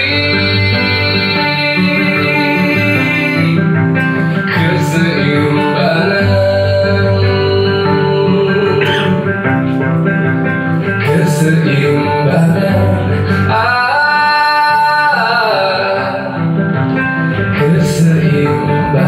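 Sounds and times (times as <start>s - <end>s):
acoustic guitar: 0.0s - 19.0s
man singing: 0.0s - 19.0s.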